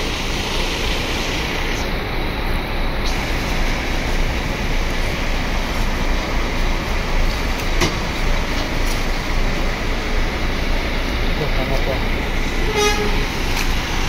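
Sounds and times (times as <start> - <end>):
buses idling: 0.0 - 14.0.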